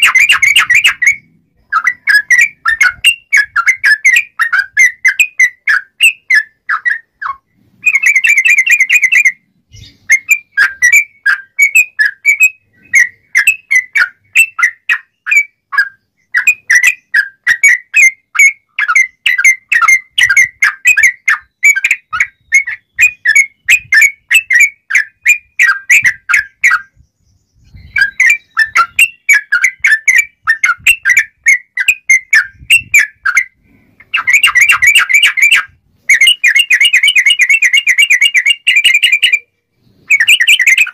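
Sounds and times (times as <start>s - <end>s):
bird trilled bursts: 0.0s - 40.9s.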